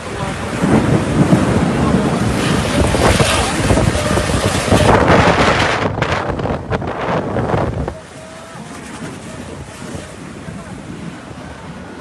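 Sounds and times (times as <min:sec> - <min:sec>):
heavy rain pouring: 0:00.0 - 0:12.0
wind buffeting microphone: 0:00.0 - 0:12.0.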